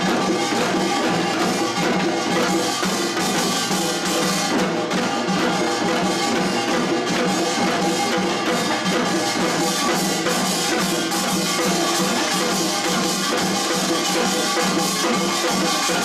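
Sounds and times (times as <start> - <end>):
folk band drums and percussion: 0.0 - 16.0.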